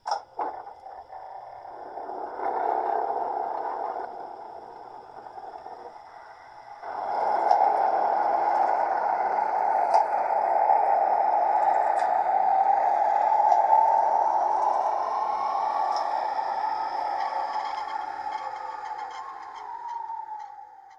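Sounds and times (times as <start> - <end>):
model locomotive running noise: 0.0 - 20.9.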